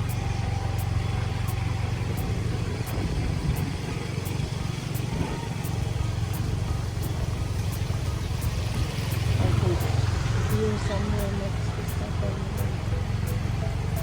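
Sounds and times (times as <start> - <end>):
motorbike engine running: 0.0 - 14.0
road and wind noise: 0.0 - 14.0.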